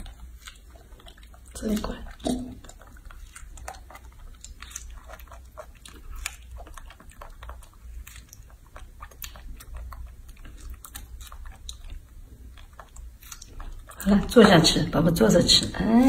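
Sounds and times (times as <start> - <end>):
monkey chewing wetly: 0.0 - 16.0.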